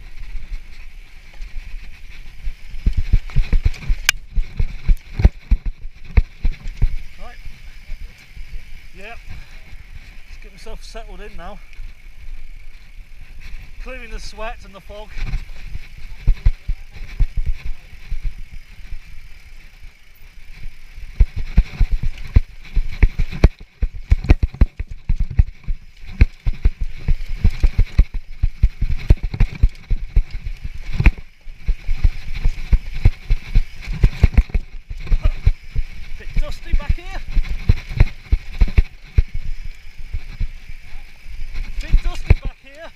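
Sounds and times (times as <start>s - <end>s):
wind and tyre noise: 0.0s - 42.9s.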